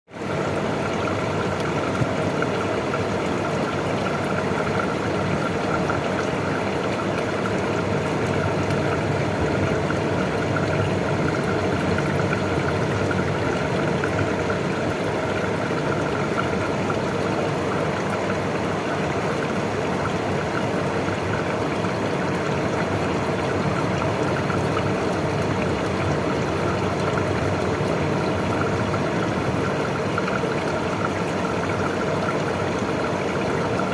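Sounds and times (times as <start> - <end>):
water trickling: 0.1 - 33.9.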